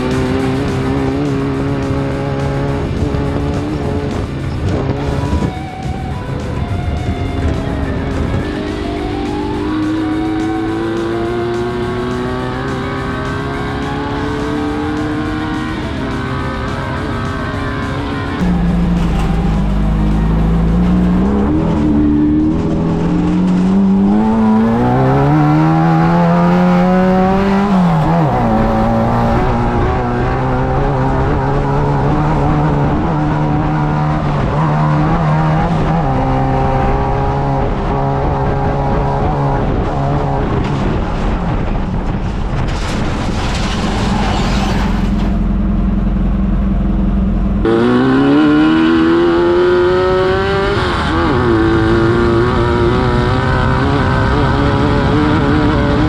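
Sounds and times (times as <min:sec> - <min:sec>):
buggy engine revving: 0:00.0 - 0:56.0.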